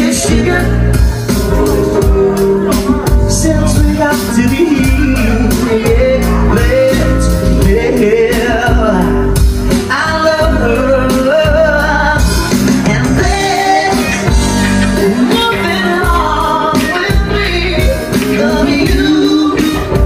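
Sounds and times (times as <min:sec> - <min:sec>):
bass guitar: 0:00.0 - 0:20.0
drums: 0:00.0 - 0:20.0
electric guitar: 0:00.0 - 0:20.0
keyboard: 0:00.0 - 0:20.0
singing into microphones: 0:00.0 - 0:20.0.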